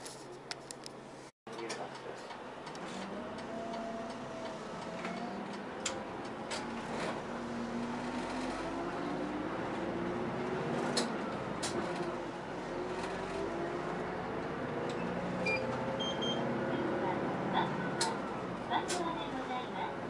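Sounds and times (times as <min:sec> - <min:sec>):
bus engine running: 0:01.1 - 0:20.0
rising drivetrain whine: 0:02.6 - 0:18.8.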